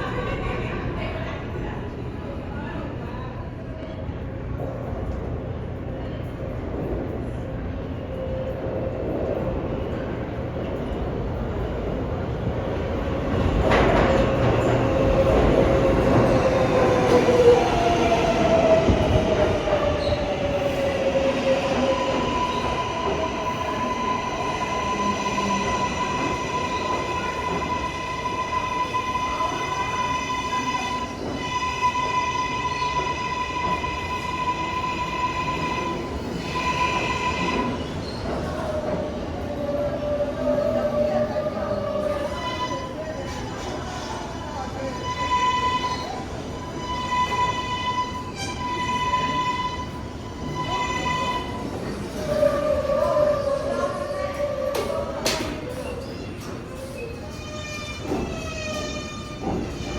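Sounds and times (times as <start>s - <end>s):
subway train moving on rails: 0.0s - 59.9s.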